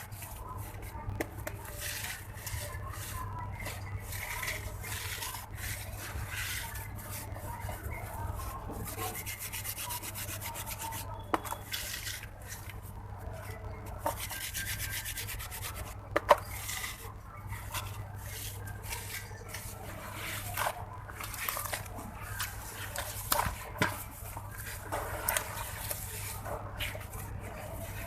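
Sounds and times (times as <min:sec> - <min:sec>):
gritty scraping of block: 0:00.6 - 0:12.8, 0:13.5 - 0:28.0.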